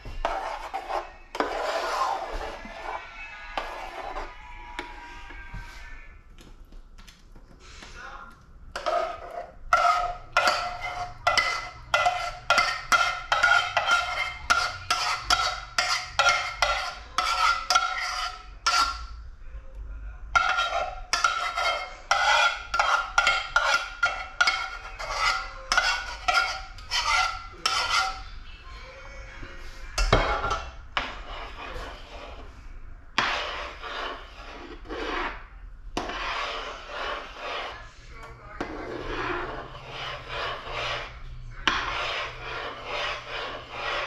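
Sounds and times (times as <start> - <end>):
metal spoon scraping pot: 0.0 - 6.0, 8.7 - 19.2, 20.3 - 28.6, 29.4 - 32.6, 33.2 - 44.0.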